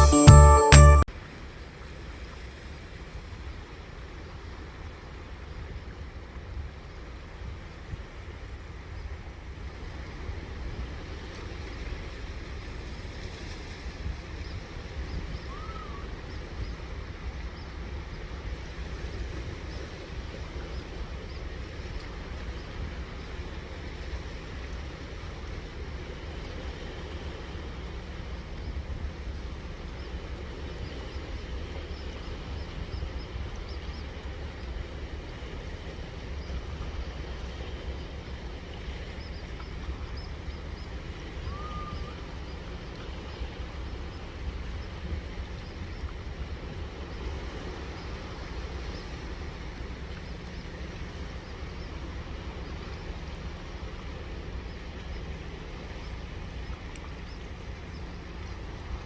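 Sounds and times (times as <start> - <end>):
sea surf: 0.0 - 6.5, 7.2 - 59.0
wind: 0.0 - 59.0.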